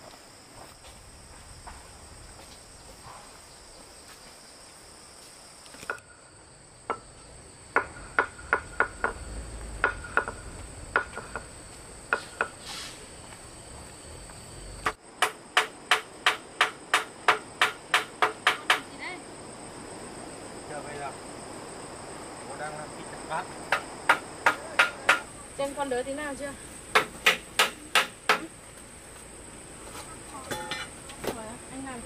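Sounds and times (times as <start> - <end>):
insects shrilling: 0.0 - 32.0.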